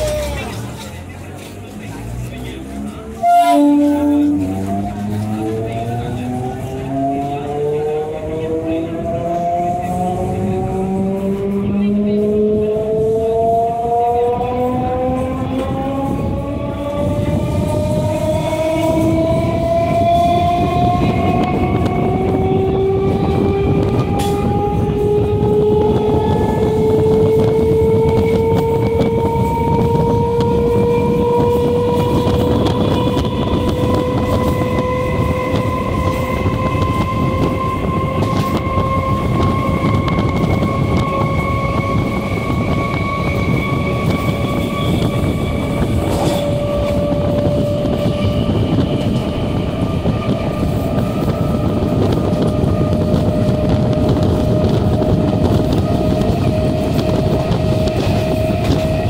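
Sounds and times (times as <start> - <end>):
train traction motors whining: 0.0 - 59.0
train wheels rolling on rails: 0.0 - 59.0.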